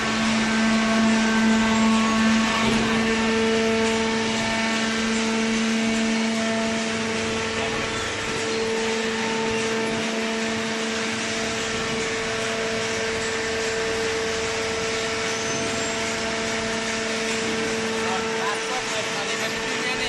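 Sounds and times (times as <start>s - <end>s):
electric motor hum: 0.0s - 20.0s
high machine whine: 0.0s - 20.0s.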